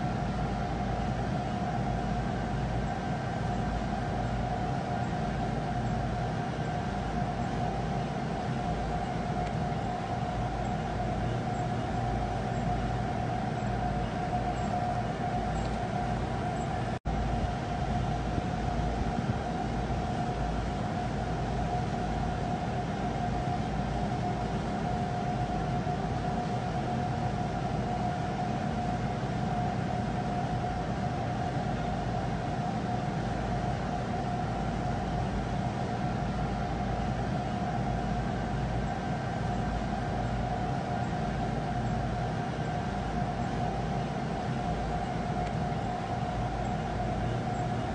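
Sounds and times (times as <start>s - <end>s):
constant whining tone: 0.0s - 47.9s
ship engine low rumble: 0.0s - 47.9s.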